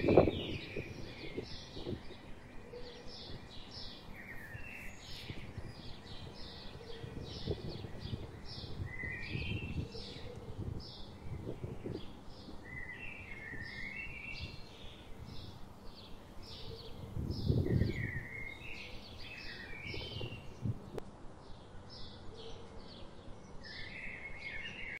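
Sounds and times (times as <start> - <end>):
low outdoor rumble: 0.0 - 21.4
small birds chirping: 0.0 - 24.9.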